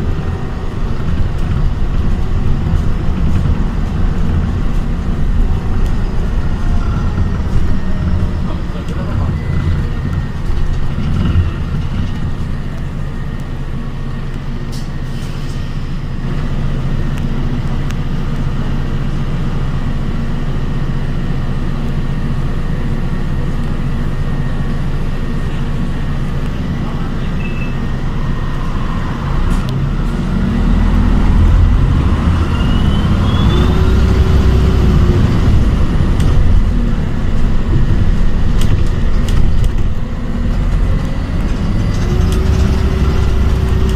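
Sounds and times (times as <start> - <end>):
rising whine: 0.0 - 18.6, 24.0 - 43.9
bus drive rumble and road noise: 0.0 - 43.9.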